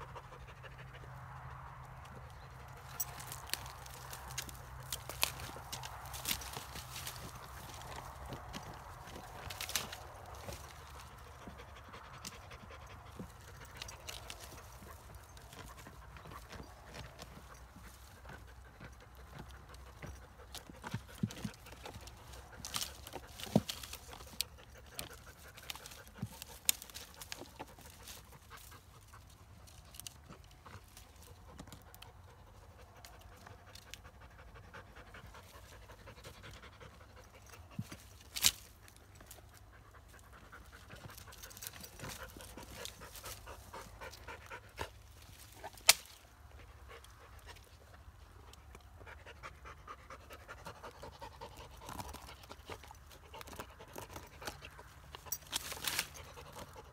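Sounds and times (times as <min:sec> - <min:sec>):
dog panting hard: 0:06.3 - 0:29.3, 0:30.2 - 0:38.1, 0:39.0 - 0:45.7, 0:46.5 - 0:55.4.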